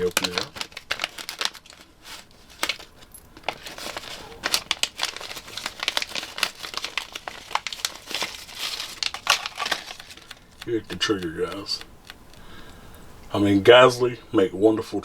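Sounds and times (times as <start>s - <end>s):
packaging crinkling: 0.0s - 12.8s.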